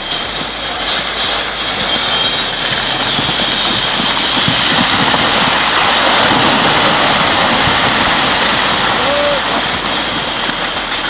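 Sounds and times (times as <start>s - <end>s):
rockslide rushing rumble: 0.0s - 11.0s.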